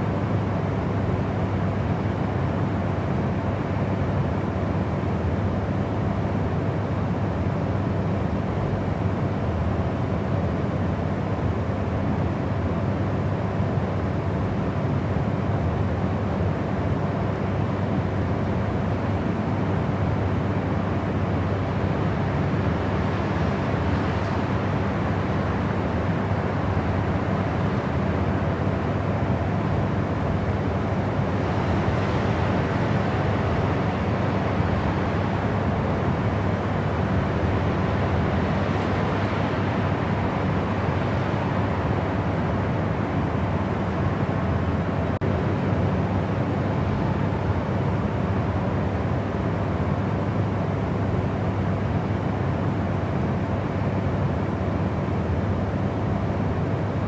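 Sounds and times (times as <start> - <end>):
steady white noise: 0.0 - 57.0.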